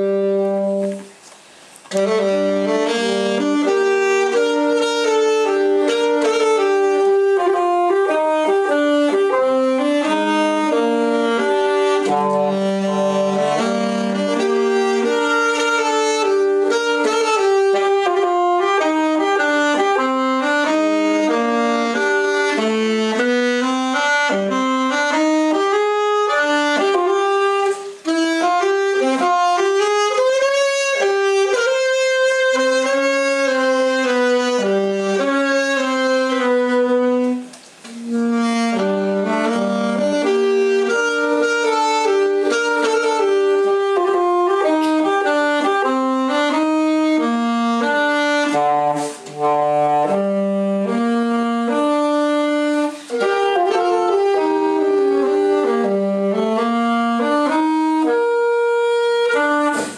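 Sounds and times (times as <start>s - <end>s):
alto saxophones duet: 0.0s - 59.9s.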